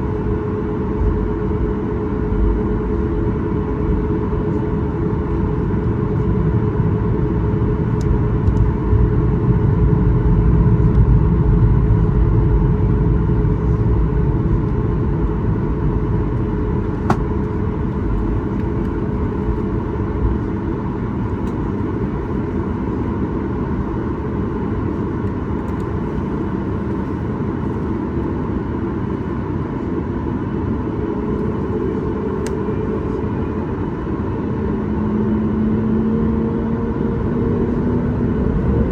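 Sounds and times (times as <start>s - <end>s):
faint steady hum: 0.0s - 34.9s
airplane cabin engine rumble: 0.0s - 38.9s.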